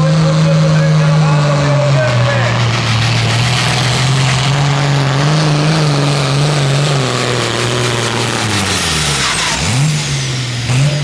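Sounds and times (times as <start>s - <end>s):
high whine: 0.0s - 10.8s
tractor engine at high revs: 0.0s - 11.0s.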